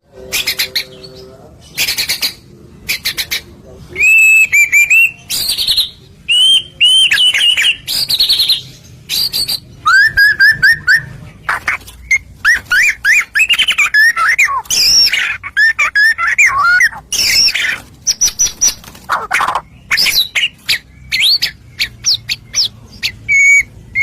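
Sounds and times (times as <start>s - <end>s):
harsh rasping bird notes: 0.0s - 24.0s
songbird whistling song: 0.3s - 24.0s.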